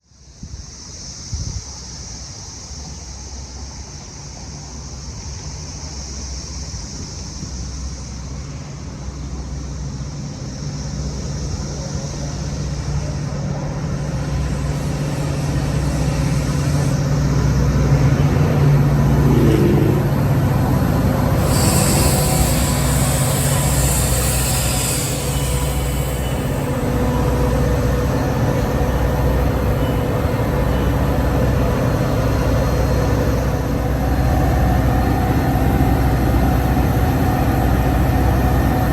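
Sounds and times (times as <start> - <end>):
high hiss: 0.0 - 38.9
train low hum: 0.0 - 38.9.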